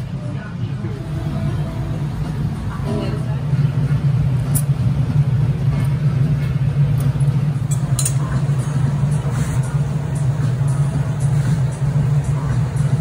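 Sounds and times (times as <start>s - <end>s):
burners and blowers roaring: 0.0s - 13.0s.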